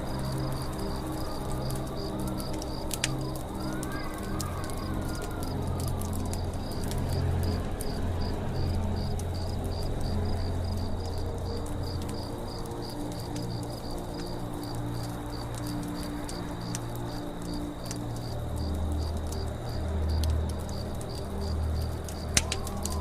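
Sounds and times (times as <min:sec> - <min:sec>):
campfire crackling and popping: 0:00.0 - 0:23.0
insect chirping: 0:00.0 - 0:23.0.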